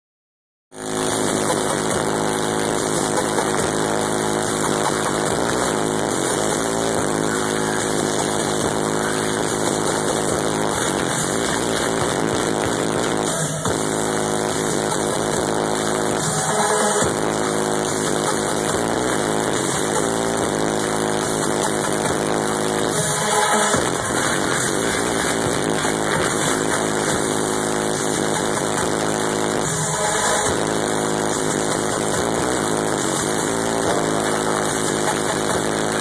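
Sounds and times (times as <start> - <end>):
loud electronic dance music: 0.7 - 36.0.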